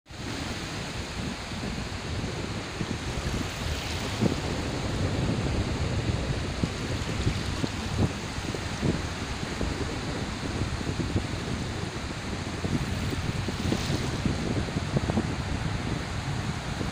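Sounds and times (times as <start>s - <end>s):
surf waves washing in: 0.1s - 16.9s
wind buffeting microphone: 0.1s - 16.9s.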